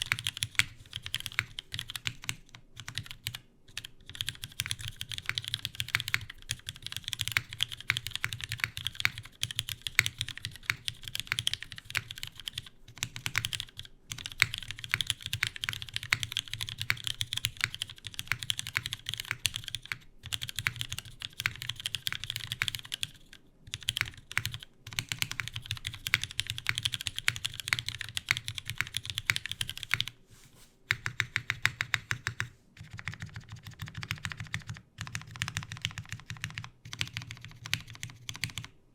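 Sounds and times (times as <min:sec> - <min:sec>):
fast typing on mechanical keyboard: 0:00.0 - 0:30.2, 0:30.9 - 0:38.8
faint fan hum: 0:00.0 - 0:38.9.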